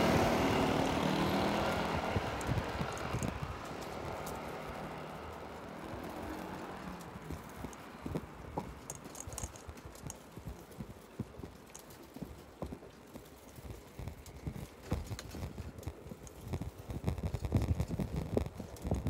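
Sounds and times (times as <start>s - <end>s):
footsteps on pavement: 0.0s - 19.0s.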